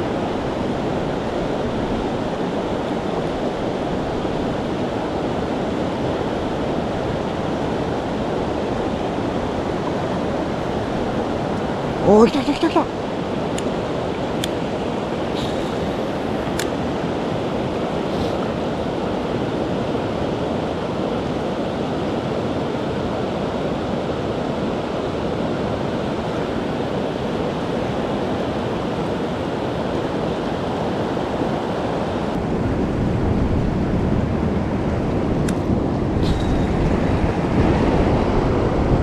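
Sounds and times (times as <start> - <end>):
wind rumble on microphone: 0.0 - 12.1, 12.9 - 39.0
river water rushing: 0.0 - 34.3.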